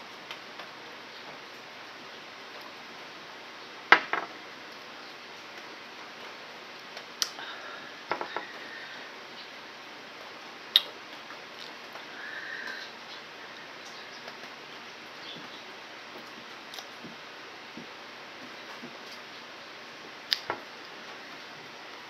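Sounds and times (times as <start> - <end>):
low room hiss: 0.0 - 22.0.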